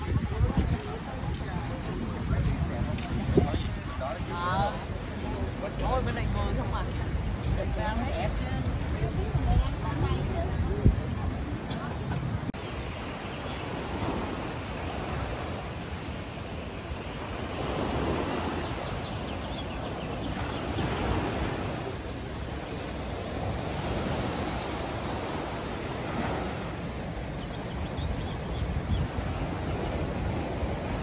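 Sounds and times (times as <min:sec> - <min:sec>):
ocean waves on rocky shore: 0:00.0 - 0:31.0.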